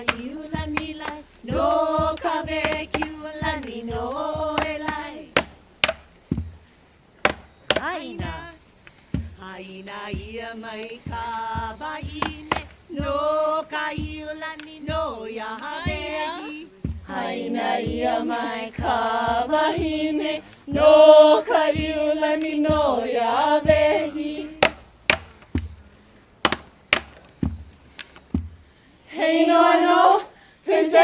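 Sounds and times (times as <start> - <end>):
people chanting: 0.0 - 27.7, 28.6 - 31.0
drum beating steadily: 0.0 - 30.2.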